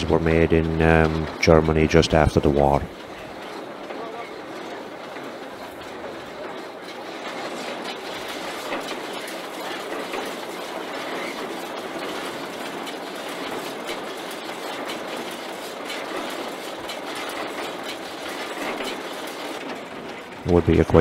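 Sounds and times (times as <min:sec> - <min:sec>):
baler mechanical clatter: 0:00.0 - 0:21.0.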